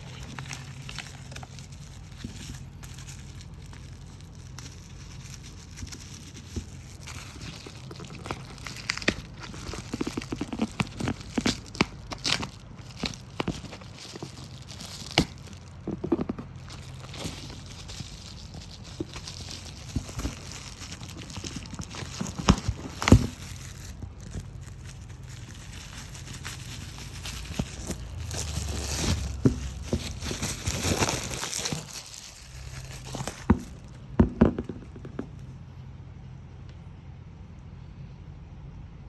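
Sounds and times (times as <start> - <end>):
packaging crinkling and rustling: 0.0 - 35.5.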